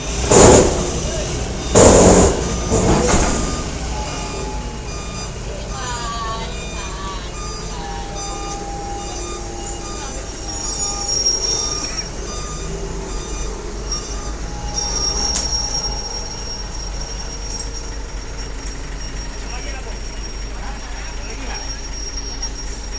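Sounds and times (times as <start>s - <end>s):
high metallic squeal: 0.0s - 22.9s
machinery humming: 0.0s - 22.9s.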